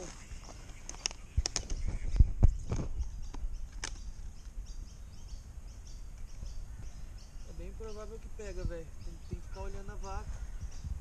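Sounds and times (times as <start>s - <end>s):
birds chirping faintly: 0.0s - 11.0s
outdoor background noise: 0.0s - 11.0s.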